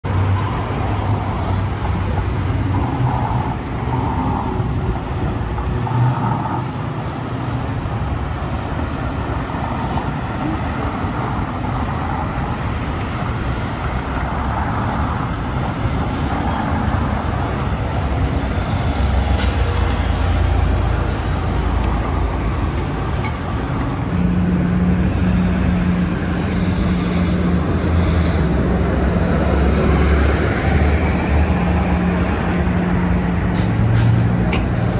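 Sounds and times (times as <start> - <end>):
cars passing: 0.0 - 34.9
bus engine low hum: 0.1 - 34.9.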